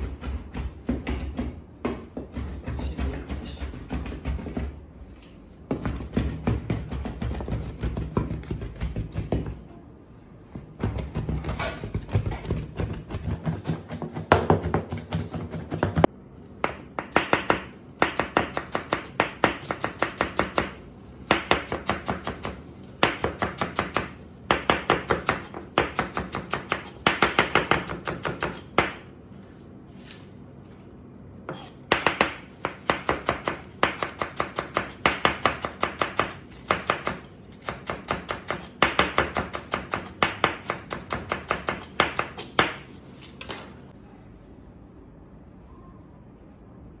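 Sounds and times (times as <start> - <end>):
knife chopping on plastic board: 0.0 - 4.8, 5.7 - 9.6, 10.6 - 29.0, 31.5 - 42.9.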